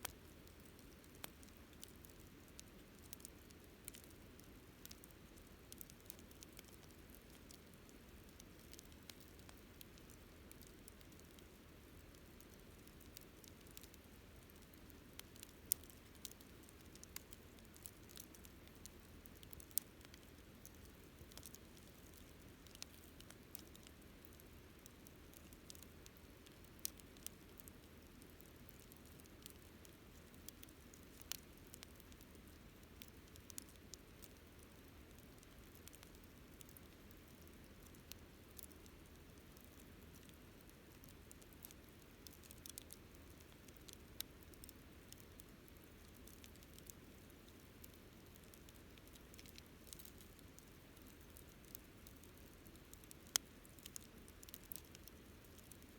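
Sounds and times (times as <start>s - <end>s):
campfire crackling: 0.0s - 55.9s
faint low hiss: 0.0s - 55.9s.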